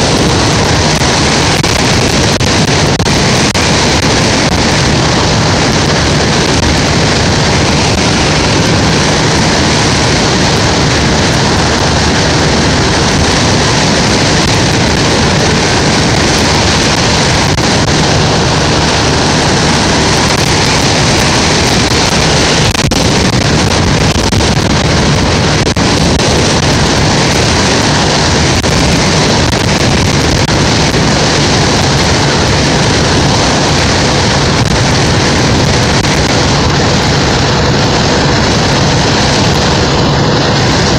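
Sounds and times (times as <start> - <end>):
vehicle running noise: 0.0 - 40.9
wind rush on microphone: 0.0 - 40.9.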